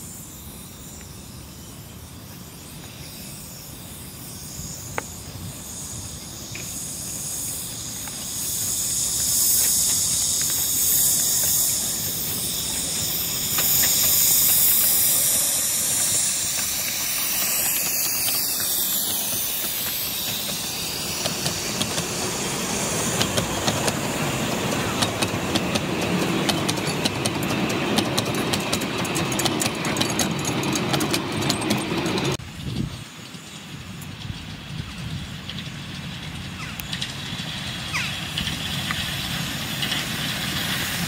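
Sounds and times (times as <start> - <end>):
steam locomotive hissing: 0.0 - 41.0
wheels clicking over rail joints: 4.5 - 41.0.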